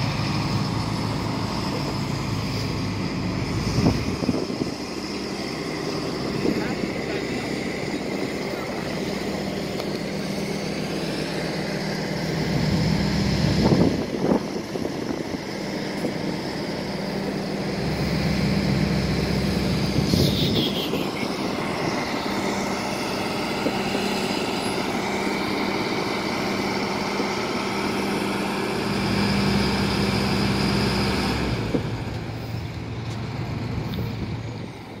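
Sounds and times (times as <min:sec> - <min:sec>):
diesel engine drone: 0:00.0 - 0:35.0.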